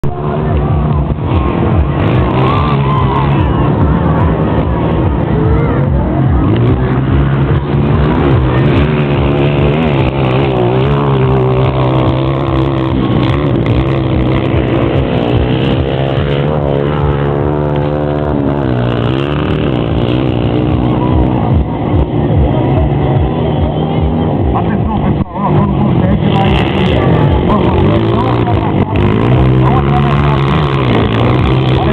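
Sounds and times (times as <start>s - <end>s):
low engine drone: 0.0s - 31.9s
motocross motorcycles revving: 0.0s - 31.9s.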